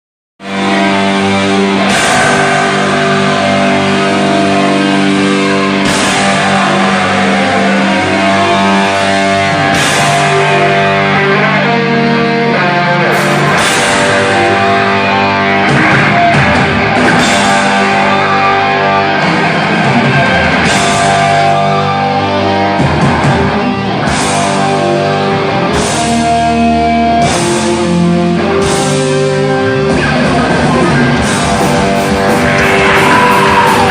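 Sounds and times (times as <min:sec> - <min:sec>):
rock band playing live: 0:00.4 - 0:33.9.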